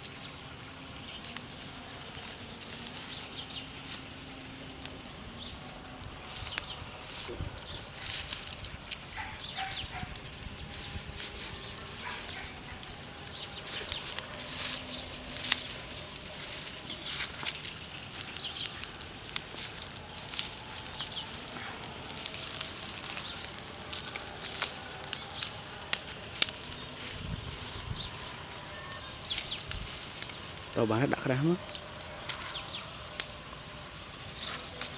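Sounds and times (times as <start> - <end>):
fire of leaves and twigs crackling: 0.0 - 34.9
steady hiss: 0.0 - 34.9.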